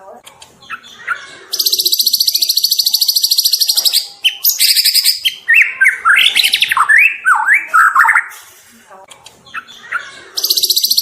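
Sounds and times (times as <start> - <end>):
bird singing rapid high trill: 0.7 - 8.3, 9.5 - 11.0
bird whistling phrases: 0.7 - 8.4, 9.6 - 11.0.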